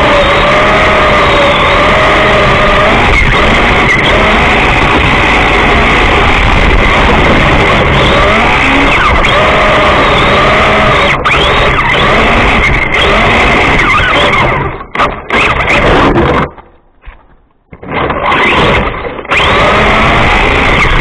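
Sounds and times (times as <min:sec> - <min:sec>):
electric motor whining: 0:00.0 - 0:16.5, 0:18.1 - 0:21.0
tyre and road noise: 0:00.0 - 0:21.0.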